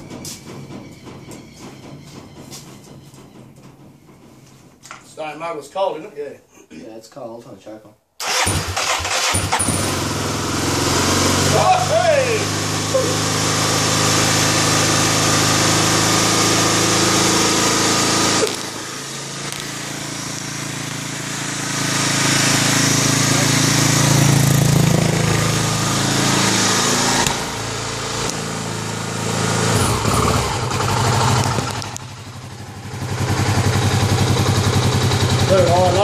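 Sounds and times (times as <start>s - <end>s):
motorcycle engine running unevenly: 0.0s - 4.8s, 9.8s - 36.0s.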